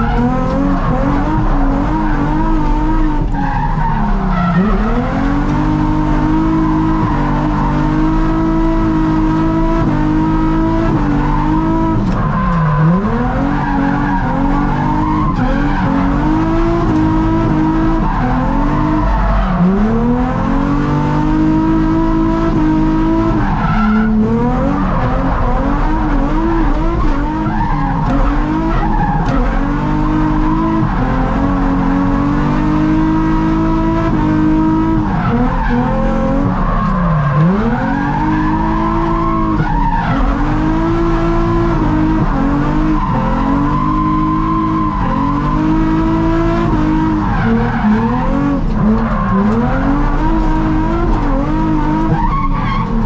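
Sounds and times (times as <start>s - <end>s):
tyres squealing and skidding: 0.0s - 9.5s, 10.3s - 21.5s, 22.8s - 33.7s, 34.4s - 53.0s
car engine at high revs: 0.0s - 53.0s.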